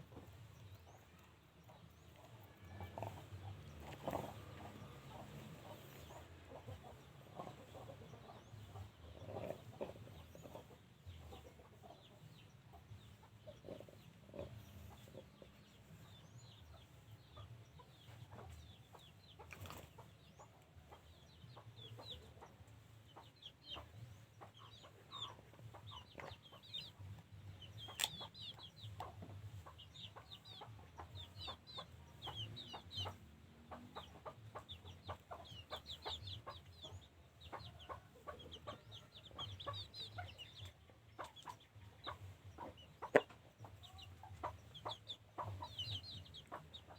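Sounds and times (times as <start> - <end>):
chickens clucking: 0.0 - 46.9
chicks peeping: 0.0 - 46.9.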